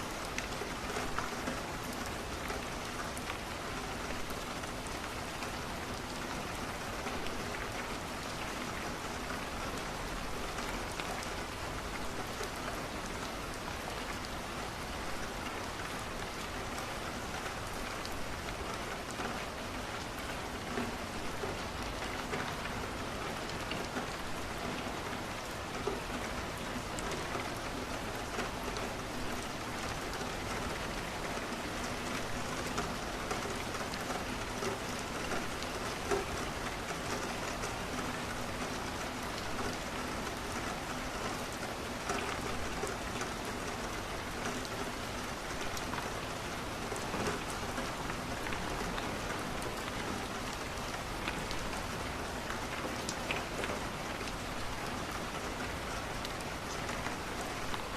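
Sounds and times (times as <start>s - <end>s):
rain on a window: 0.0s - 57.9s.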